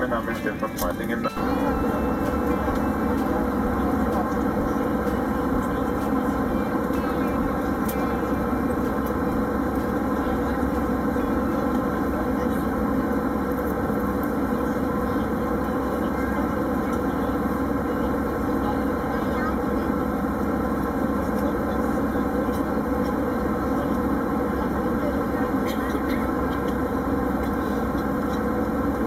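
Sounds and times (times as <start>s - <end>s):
airliner cabin engine noise: 0.0s - 29.0s.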